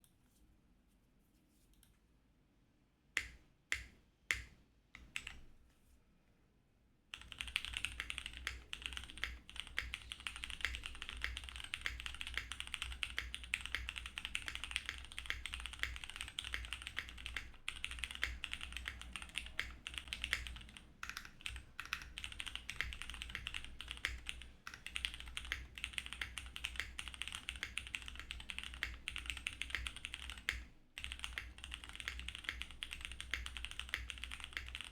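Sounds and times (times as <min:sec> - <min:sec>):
mechanical keyboard typing: 0:03.7 - 0:05.4, 0:07.2 - 0:34.9.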